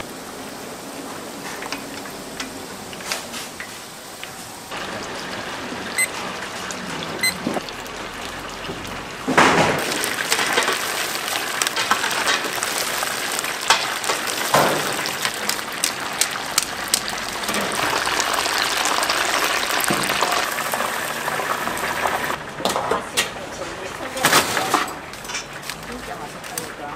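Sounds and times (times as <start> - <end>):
oil deep-frying sizzle: 0.0 - 26.9.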